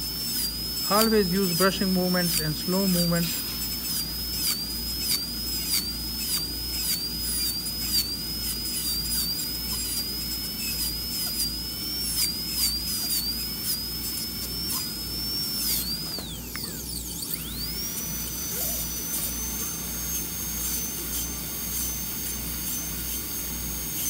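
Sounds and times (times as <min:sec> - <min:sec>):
dental drill whining: 0:00.0 - 0:24.0.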